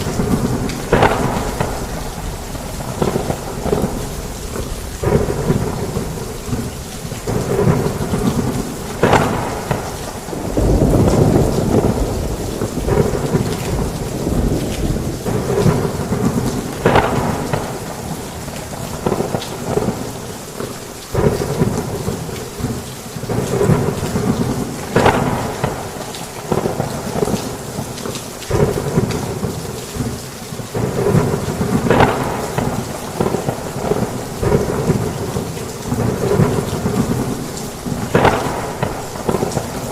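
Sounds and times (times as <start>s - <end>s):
heavy rain falling: 0.0s - 39.9s
thunder rumbling and clapping: 0.0s - 39.9s.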